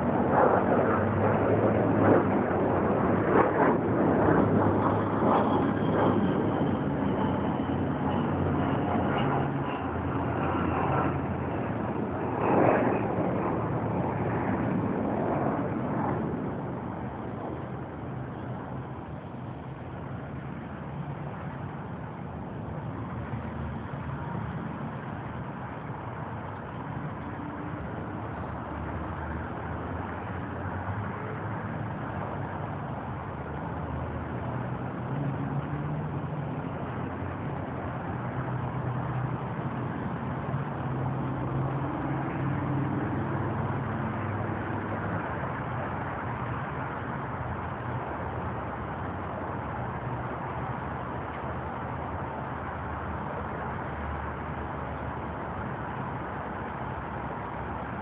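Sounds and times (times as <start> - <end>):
motor vehicles rumbling: 0.0 - 58.0.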